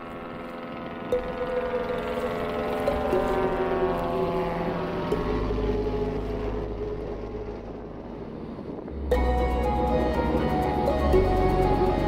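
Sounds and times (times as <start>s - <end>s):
turboprop aircraft passing overhead: 0.0s - 12.0s.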